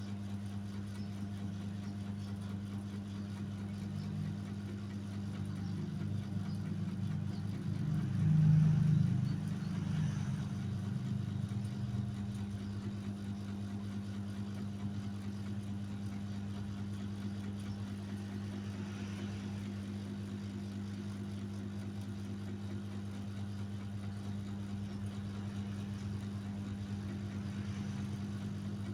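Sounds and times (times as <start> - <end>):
motorcycle engine idling: 3.0 - 28.9.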